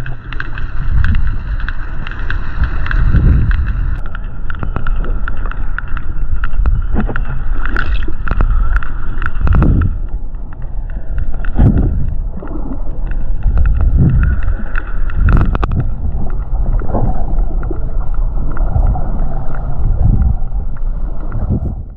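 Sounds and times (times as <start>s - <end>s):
rush and gurgle of water: 0.0s - 21.9s
sperm whale clicks underwater: 0.0s - 21.9s.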